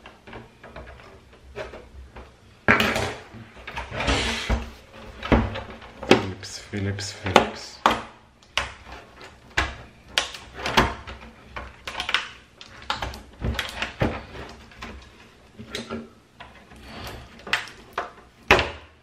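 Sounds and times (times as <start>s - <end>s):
plastic scraping and creaking: 0.0s - 18.6s.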